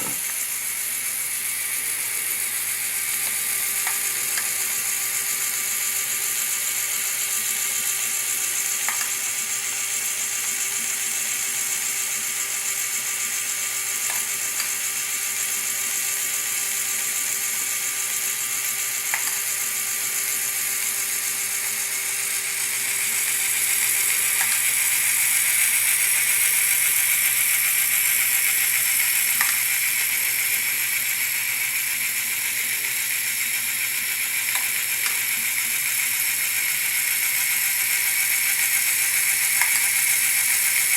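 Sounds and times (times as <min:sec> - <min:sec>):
plastic gears whirring and ratcheting: 0:00.0 - 0:40.9.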